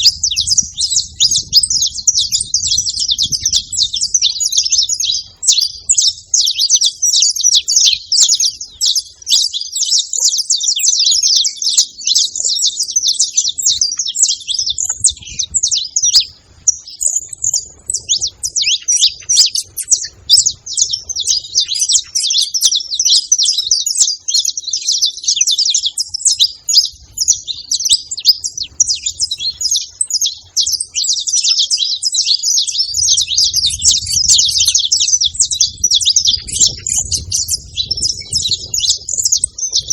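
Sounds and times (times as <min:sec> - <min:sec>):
finches chirping and singing: 0:00.0 - 0:39.9.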